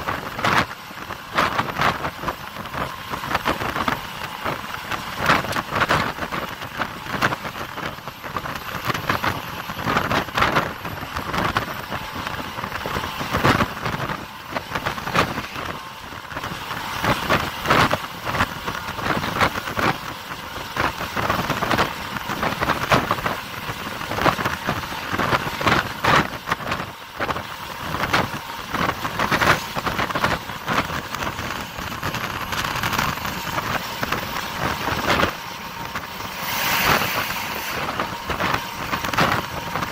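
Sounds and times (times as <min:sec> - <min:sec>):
bus wind and road noise: 0:00.0 - 0:39.9
wind buffeting microphone: 0:00.0 - 0:39.9.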